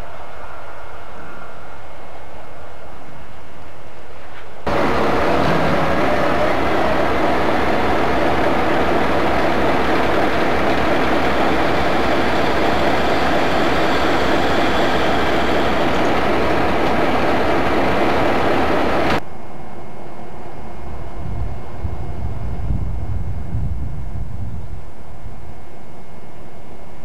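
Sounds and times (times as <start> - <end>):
diesel locomotive running: 0.0 - 26.4
outdoor background noise: 0.0 - 27.0.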